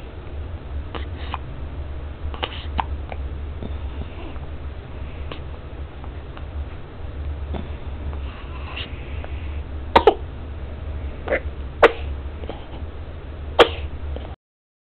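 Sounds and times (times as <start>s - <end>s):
low steady hum: 0.0s - 14.4s.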